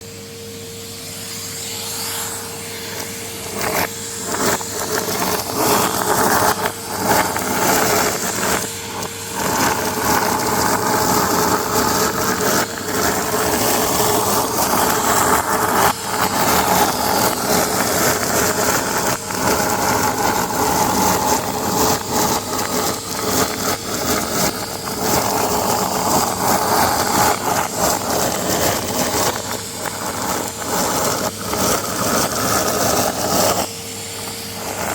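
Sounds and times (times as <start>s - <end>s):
vacuum cleaner running: 0.0s - 34.9s
confetti rattling through nozzle: 3.0s - 34.9s.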